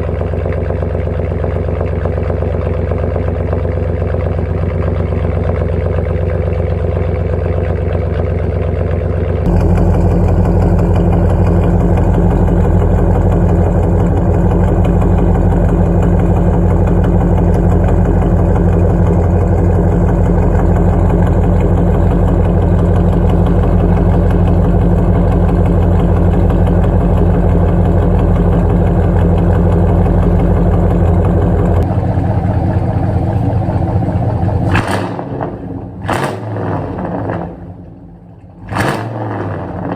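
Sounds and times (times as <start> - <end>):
pickup truck engine idling: 0.0 - 36.0.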